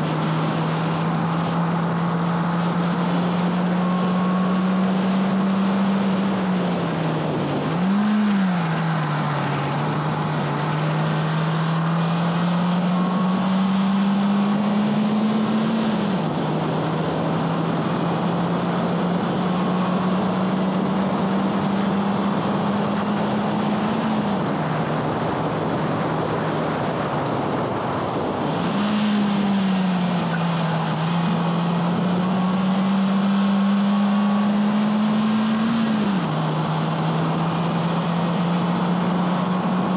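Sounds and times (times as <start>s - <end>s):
car engine revving hard: 0.0s - 25.0s, 28.2s - 39.9s
wind and tyre noise: 0.0s - 39.9s.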